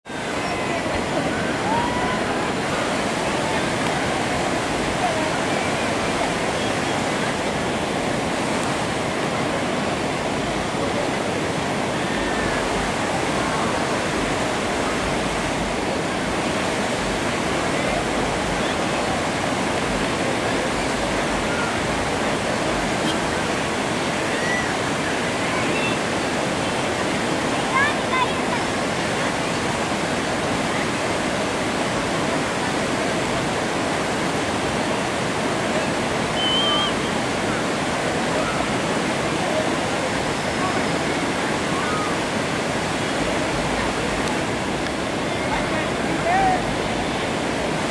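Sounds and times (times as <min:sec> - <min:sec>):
river rapids rushing: 0:00.1 - 0:47.9.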